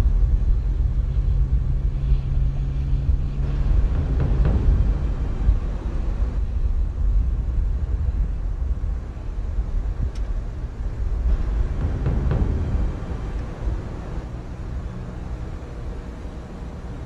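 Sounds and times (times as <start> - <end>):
deep rumbling drone: 0.0 - 17.0.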